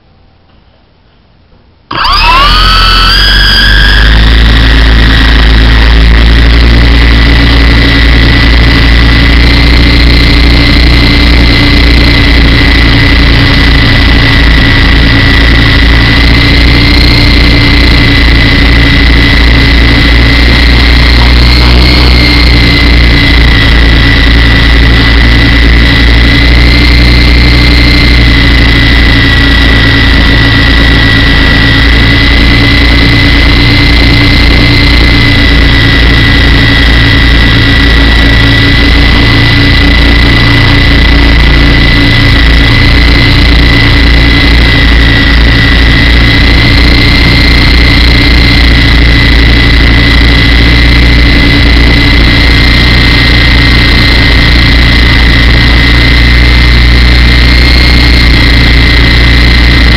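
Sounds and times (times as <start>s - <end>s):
high wavering whine: 1.8s - 59.9s
model helicopter motor and rotors: 1.9s - 59.9s.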